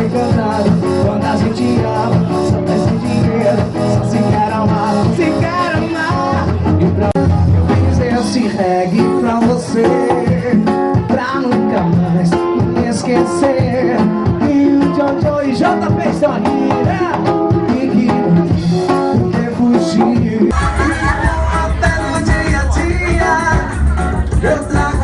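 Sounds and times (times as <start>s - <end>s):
small band playing live music: 0.0s - 25.0s.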